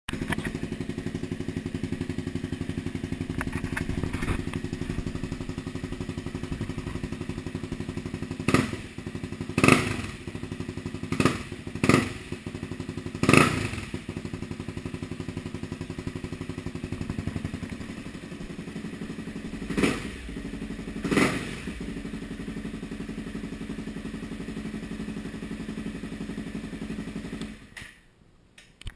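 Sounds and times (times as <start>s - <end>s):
motorcycle engine idling and revving: 0.1s - 27.8s.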